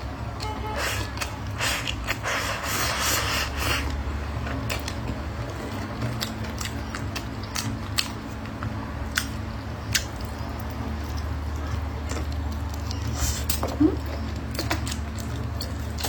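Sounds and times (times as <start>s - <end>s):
crunchy eating: 0.8s - 16.0s.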